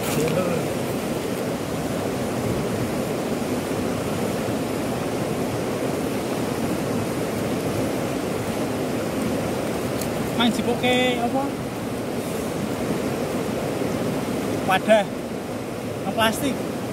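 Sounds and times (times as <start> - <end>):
river water rushing over rapids: 0.0 - 16.9.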